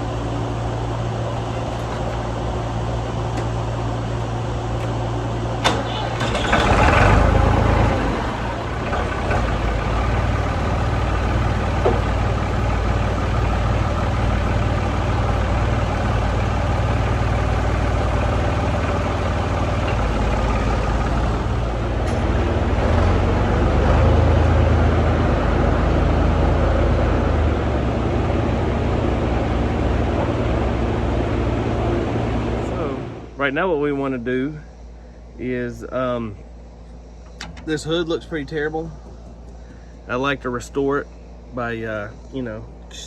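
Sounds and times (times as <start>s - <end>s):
vehicle engine droning: 0.0s - 43.0s.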